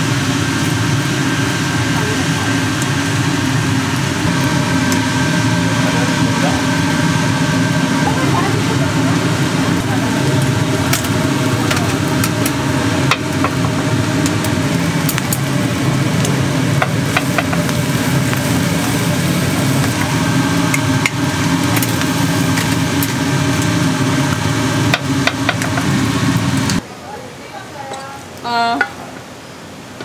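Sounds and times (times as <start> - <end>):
low mechanical drone: 0.0 - 26.8.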